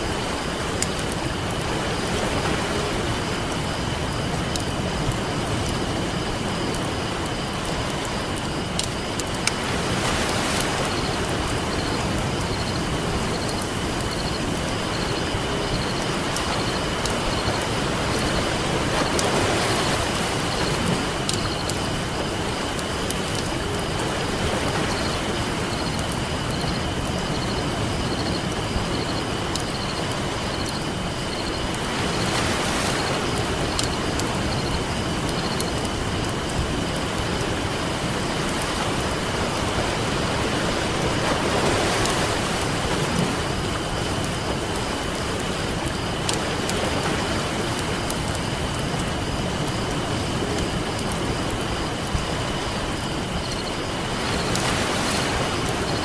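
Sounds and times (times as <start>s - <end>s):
campfire crackling: 0.0s - 56.0s
ocean surf: 0.0s - 56.0s.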